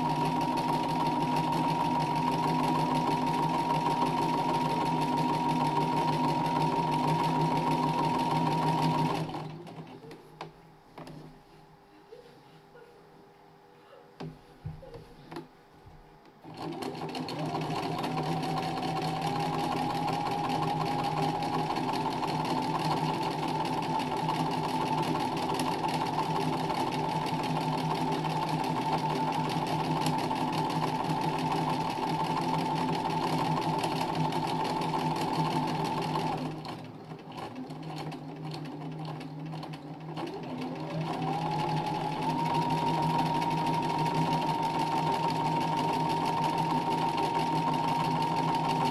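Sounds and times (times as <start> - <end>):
sewing machine stitching: 0.0 - 10.2, 16.4 - 48.9.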